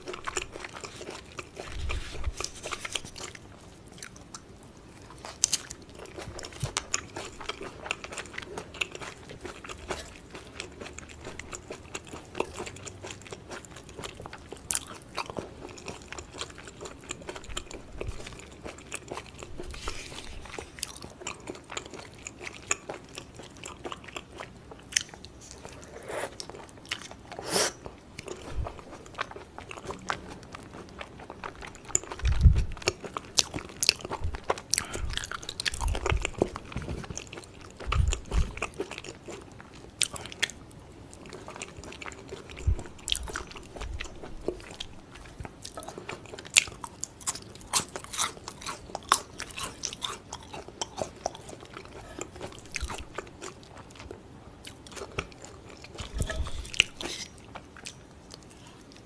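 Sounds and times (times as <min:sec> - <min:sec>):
wet sticky chewing: 0:00.0 - 0:40.6, 0:41.2 - 0:59.0.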